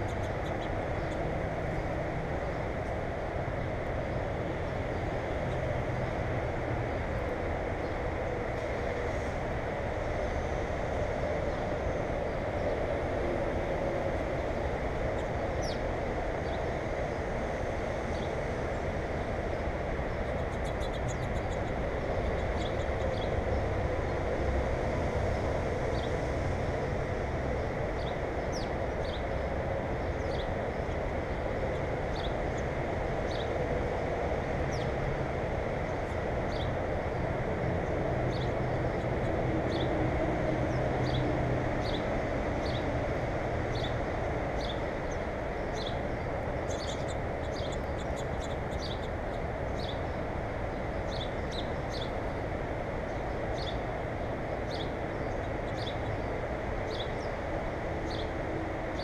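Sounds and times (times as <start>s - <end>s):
low rumbling background noise: 0.0s - 59.0s.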